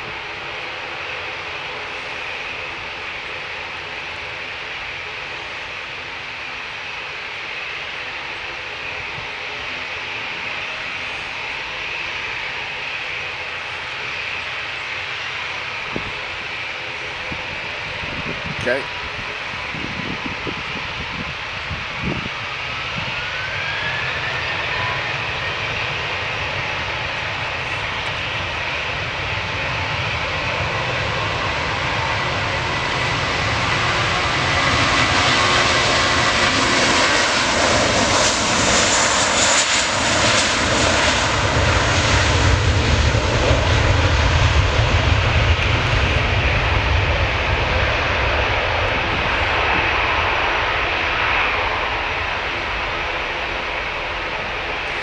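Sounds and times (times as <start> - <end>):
jet engines on takeoff roll: 0.0 - 55.0.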